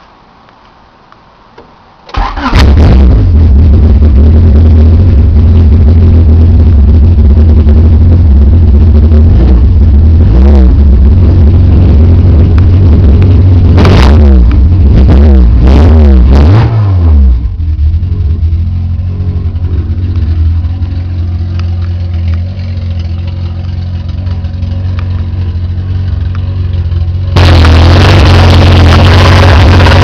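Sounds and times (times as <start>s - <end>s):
car engine revving and idling: 2.2s - 30.0s.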